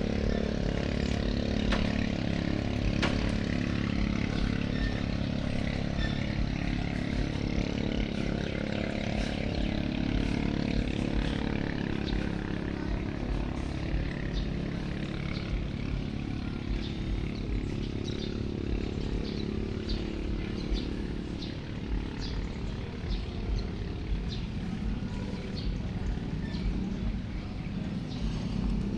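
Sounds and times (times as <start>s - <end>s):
boat engine running: 0.0s - 28.9s.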